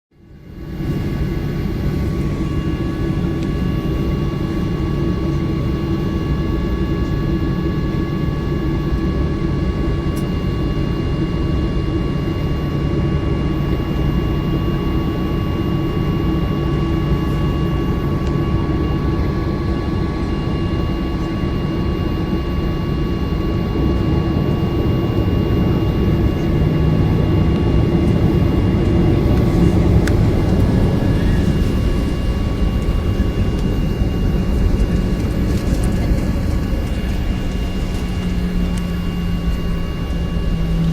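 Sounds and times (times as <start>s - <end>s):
high engine whines: 0.2s - 40.9s
jet engines roaring: 0.3s - 40.9s.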